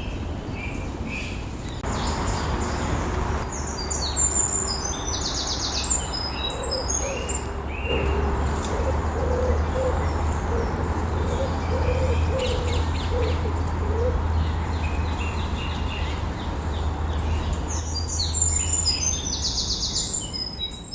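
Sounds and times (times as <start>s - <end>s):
songbird singing with trills: 0.0s - 20.9s.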